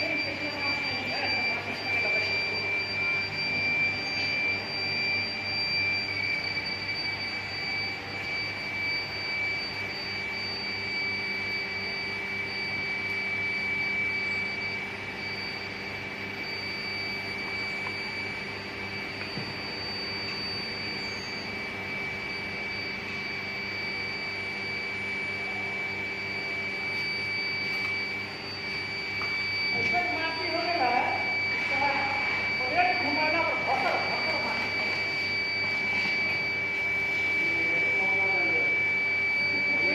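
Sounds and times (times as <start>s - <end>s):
induction furnace whine: 0.0s - 39.9s.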